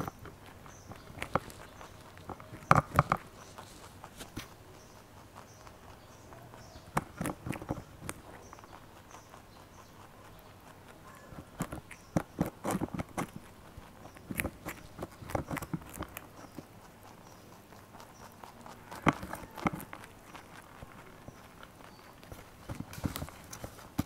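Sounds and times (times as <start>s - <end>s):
rabbits crunching cauliflower: 0.0s - 24.0s.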